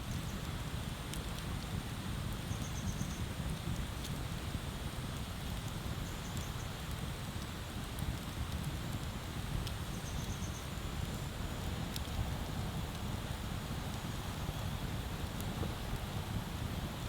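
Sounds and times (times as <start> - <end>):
fire crackling pops: 0.1 - 2.5, 3.2 - 17.0.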